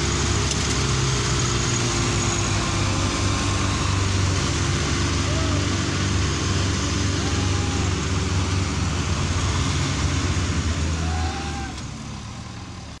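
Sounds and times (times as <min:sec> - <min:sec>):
tractor diesel engines running hard: 0:00.0 - 0:13.0.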